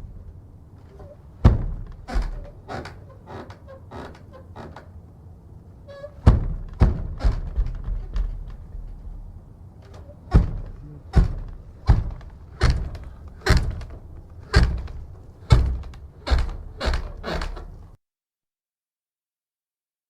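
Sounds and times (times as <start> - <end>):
heavy wooden door banging: 0.0 - 5.0, 5.9 - 18.0.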